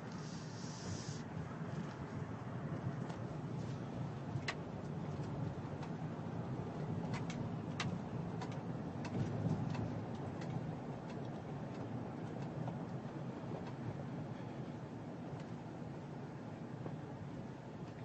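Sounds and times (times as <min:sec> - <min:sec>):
tyre and road noise: 0:00.0 - 0:18.0.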